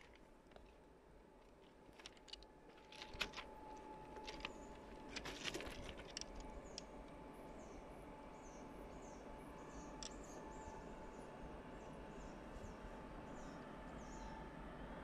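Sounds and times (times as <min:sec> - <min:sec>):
faint steady tone: 0:02.4 - 0:15.0.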